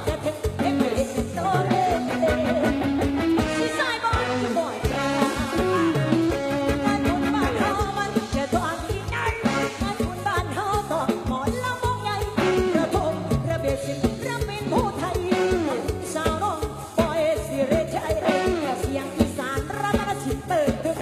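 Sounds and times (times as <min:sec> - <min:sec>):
steady drum beat: 0:00.0 - 0:20.9
guitar: 0:00.0 - 0:21.0
person singing: 0:00.0 - 0:21.0.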